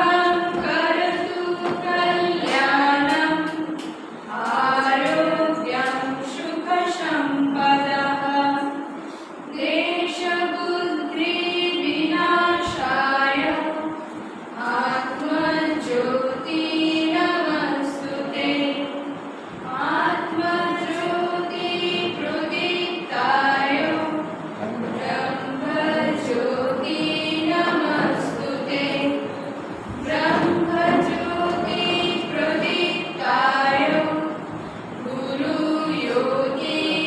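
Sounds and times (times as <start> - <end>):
group singing in unison: 0.0 - 37.0.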